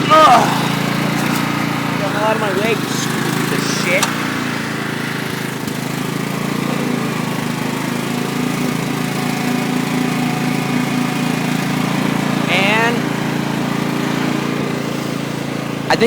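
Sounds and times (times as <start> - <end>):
riding lawn mower engine: 0.0 - 16.0.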